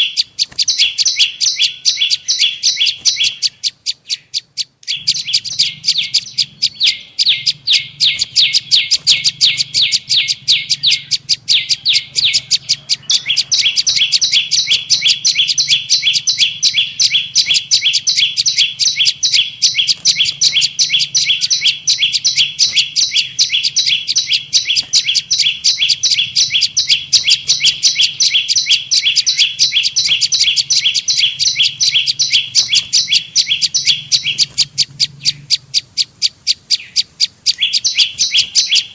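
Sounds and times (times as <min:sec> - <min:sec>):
faint low hum: 0:00.0 - 0:38.9
rapid high bird chirps: 0:00.0 - 0:38.9.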